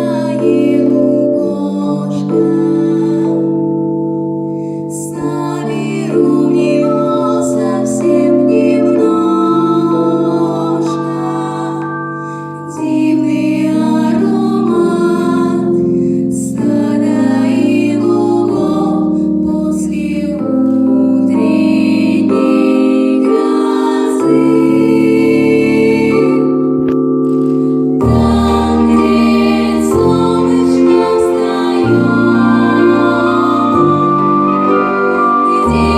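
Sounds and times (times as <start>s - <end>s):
sustained keyboard chords: 0.0s - 35.9s
people singing slow song: 4.9s - 26.6s, 28.0s - 35.9s.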